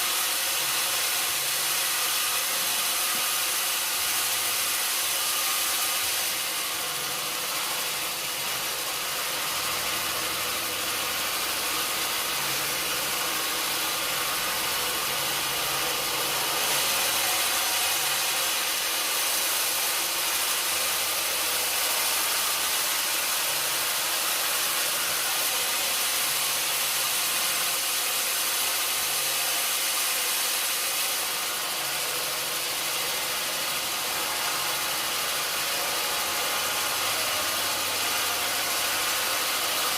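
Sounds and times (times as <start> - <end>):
saw hissing: 0.0 - 39.9.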